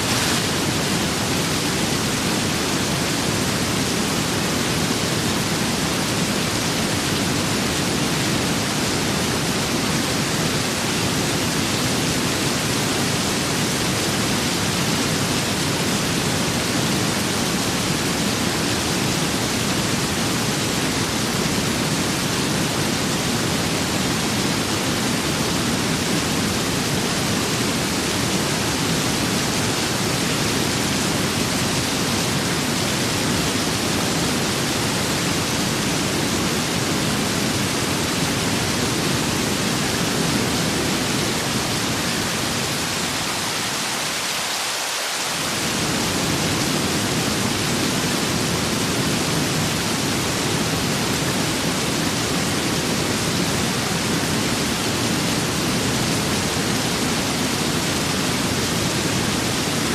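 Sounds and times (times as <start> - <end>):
rain and wind hiss: 0.0 - 59.9.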